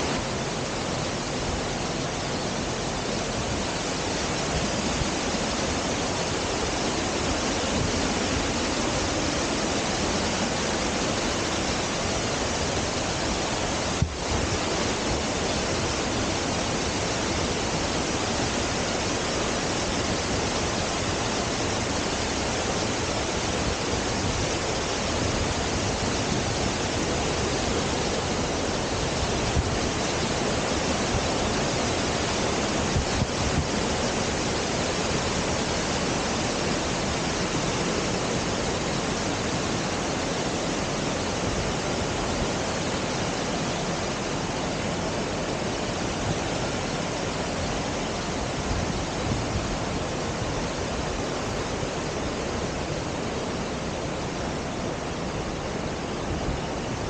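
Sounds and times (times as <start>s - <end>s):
creek water rushing over rocks: 0.0s - 57.0s.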